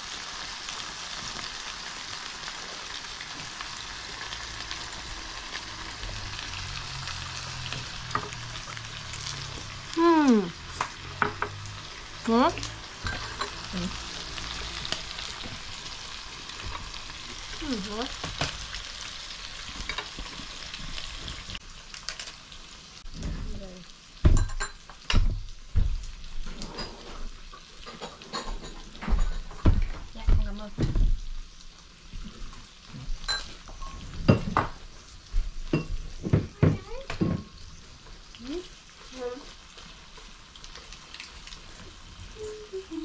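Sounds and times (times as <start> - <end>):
meat sizzling on grill: 0.0 - 43.0.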